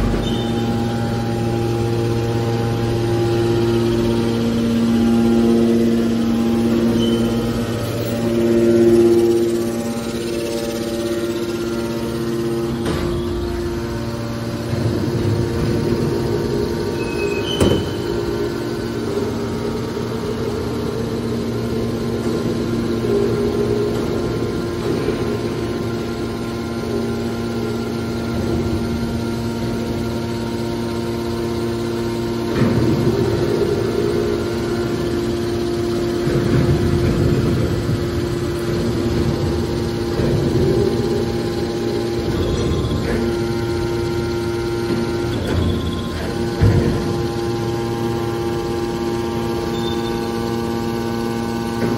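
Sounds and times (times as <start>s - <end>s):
hydraulic baler humming: 0.0s - 51.9s.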